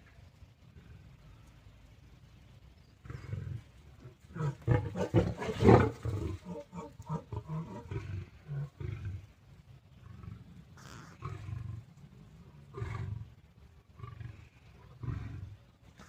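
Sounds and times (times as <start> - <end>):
big cats snarling and roaring: 2.9 - 16.0.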